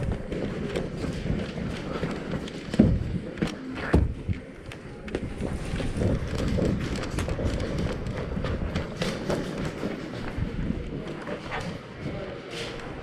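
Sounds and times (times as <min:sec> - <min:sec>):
running footsteps on concrete: 0:00.0 - 0:13.0.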